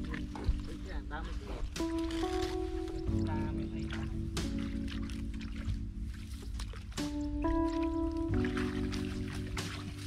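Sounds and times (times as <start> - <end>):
sustained synth chords: 0.0 - 10.0.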